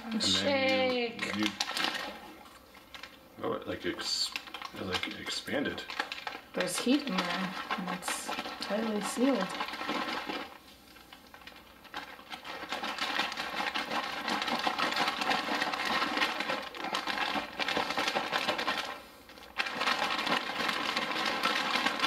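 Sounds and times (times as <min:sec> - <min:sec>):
pouch crinkling while shaken: 0:00.2 - 0:22.0.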